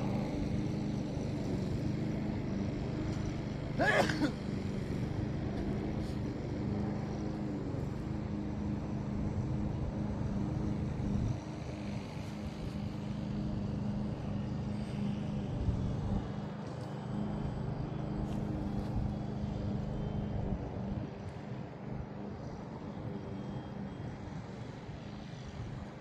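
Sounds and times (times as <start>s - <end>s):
model airplane motor droning: 0.0s - 26.0s.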